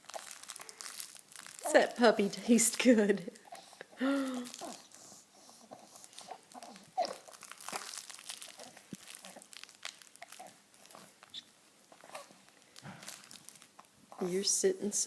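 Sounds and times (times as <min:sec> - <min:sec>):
soft crinkling and rustling: 0:00.0 - 0:15.0.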